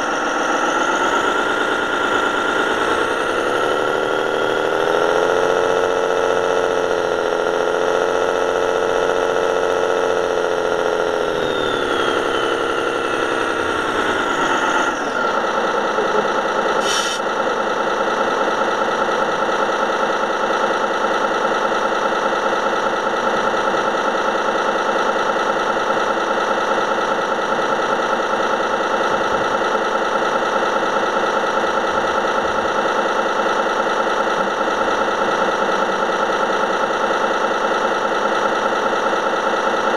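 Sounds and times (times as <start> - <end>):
model truck engine sound: 0.0 - 39.9.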